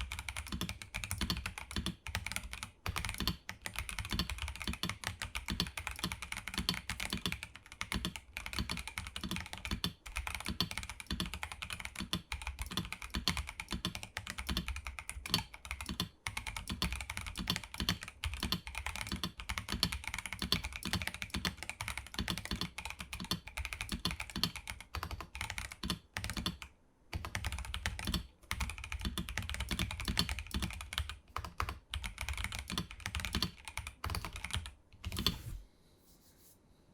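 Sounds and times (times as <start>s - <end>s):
fast typing on mechanical keyboard: 0.0s - 35.5s.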